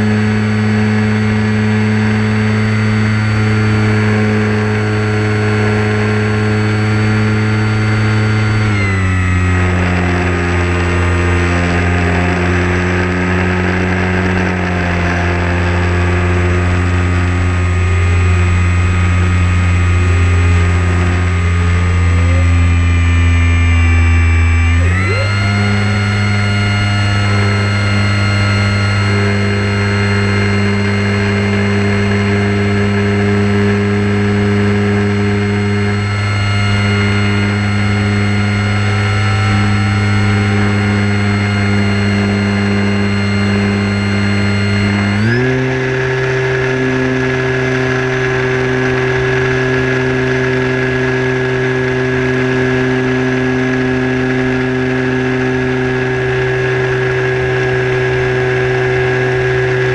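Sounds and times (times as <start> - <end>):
model airplane motor whining drone: 0.0 - 59.9.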